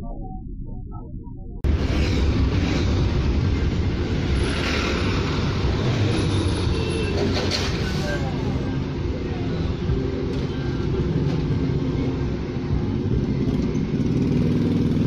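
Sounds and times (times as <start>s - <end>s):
car engine and road noise: 1.6s - 15.0s
traffic rumble: 1.6s - 15.0s.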